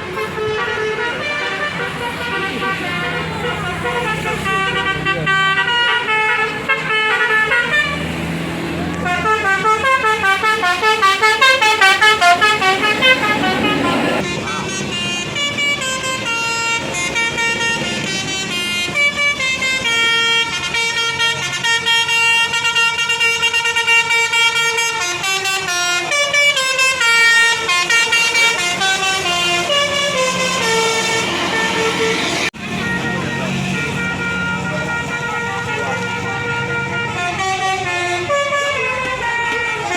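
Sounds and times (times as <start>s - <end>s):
musical bus air horn melody: 0.0s - 39.9s.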